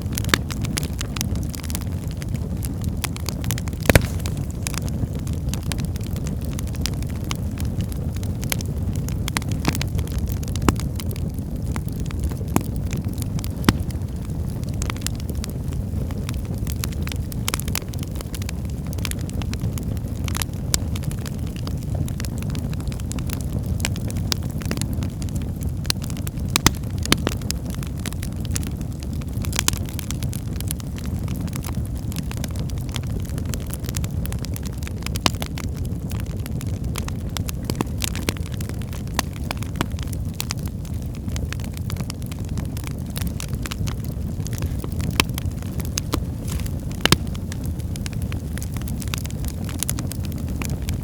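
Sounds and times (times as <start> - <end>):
fire roaring: 0.0 - 51.0
logs crackling and popping: 0.0 - 51.0.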